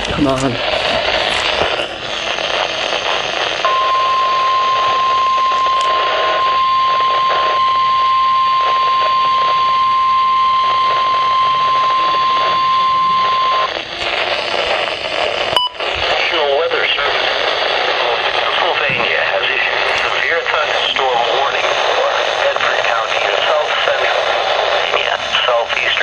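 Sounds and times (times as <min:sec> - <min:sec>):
radio static hiss: 0:00.0 - 0:26.0
steady high alarm tone: 0:00.5 - 0:16.0, 0:18.2 - 0:25.7.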